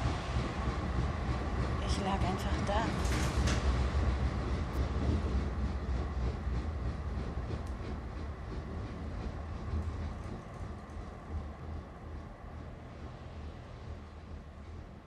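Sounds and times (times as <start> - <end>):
tram wheels and motor rumbling: 0.0 - 15.0.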